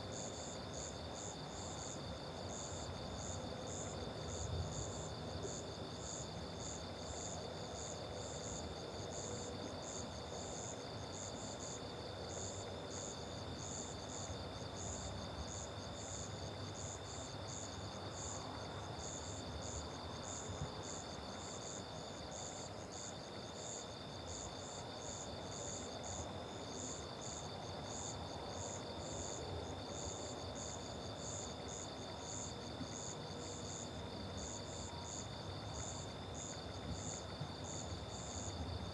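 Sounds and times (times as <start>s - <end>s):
faint rural background hum: 0.0s - 38.9s
rhythmic cricket chirping: 0.0s - 38.9s.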